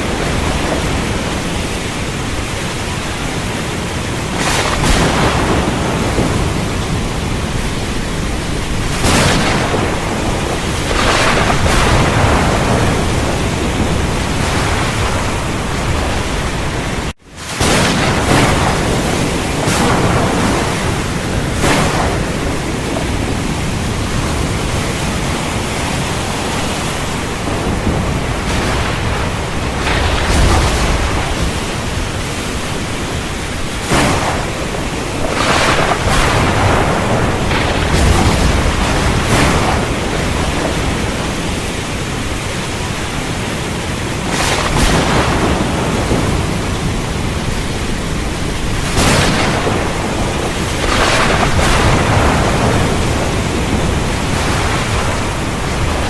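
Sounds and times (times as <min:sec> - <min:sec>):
heavy rain: 0:00.0 - 0:56.0
thunder cracks and rumbles: 0:00.0 - 0:56.0.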